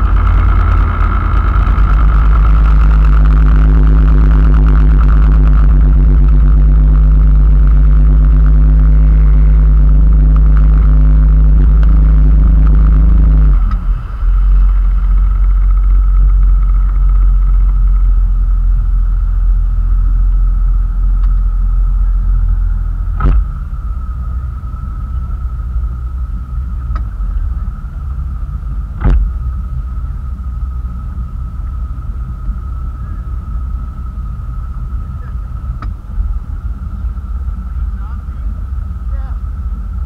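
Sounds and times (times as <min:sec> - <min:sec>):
motorboat engine: 0:00.0 - 0:40.0
water rumble: 0:00.0 - 0:40.0.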